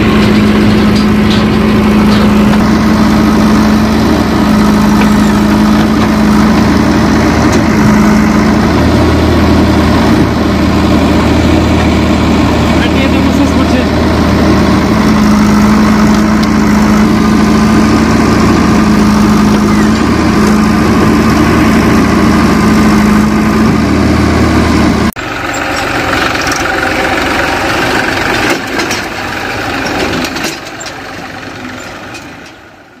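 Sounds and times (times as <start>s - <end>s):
diesel engine running loud: 0.0s - 33.0s
quieter engine with noise: 0.0s - 33.0s.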